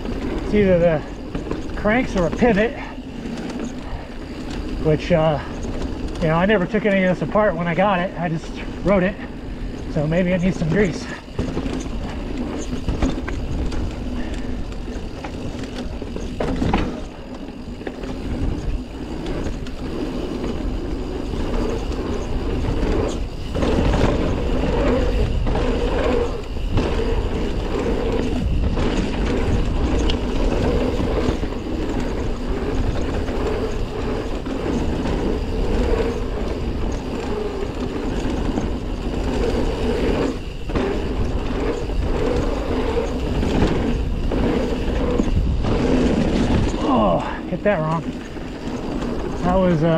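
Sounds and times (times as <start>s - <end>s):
bike tyres rolling on dirt: 0.0s - 49.9s
bike knocking over bumps: 9.2s - 49.9s.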